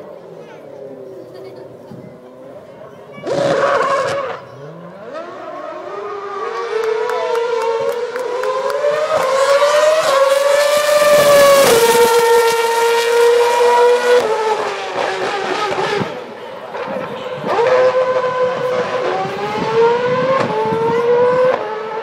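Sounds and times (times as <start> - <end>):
racing car engine passing: 2.2 - 22.0.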